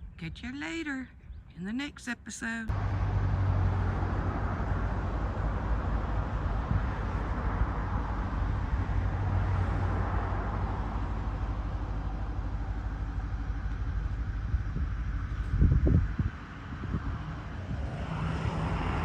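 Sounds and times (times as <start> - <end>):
vehicle rumble and hum: 0.0 - 19.0.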